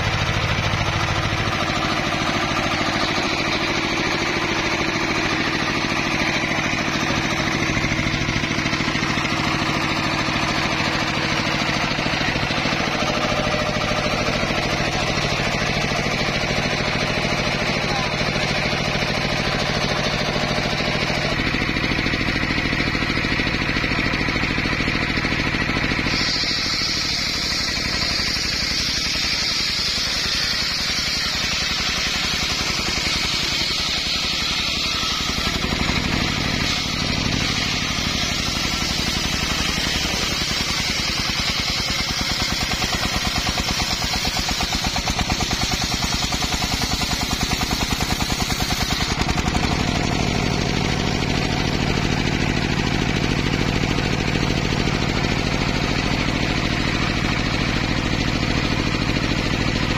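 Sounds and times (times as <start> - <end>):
circular blade cutting wood: 0.0 - 59.9
sawmill engine running: 0.0 - 59.9.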